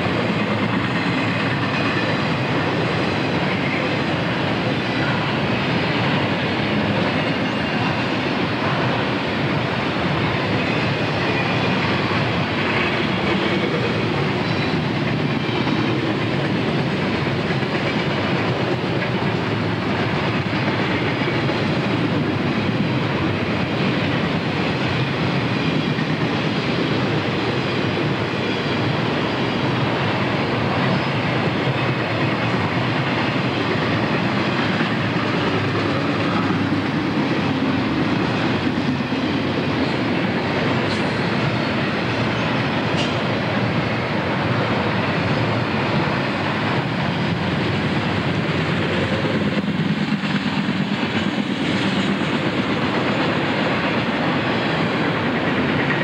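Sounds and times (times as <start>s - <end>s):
train wheels running over rails: 0.0s - 56.0s.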